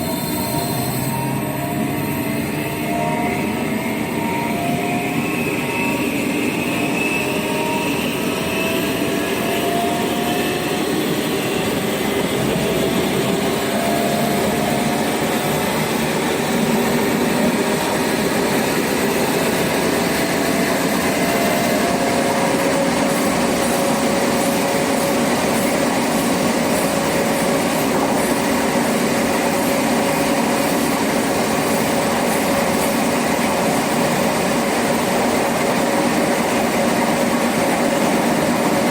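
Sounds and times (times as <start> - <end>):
train motors rumbling and whining: 0.0 - 38.9.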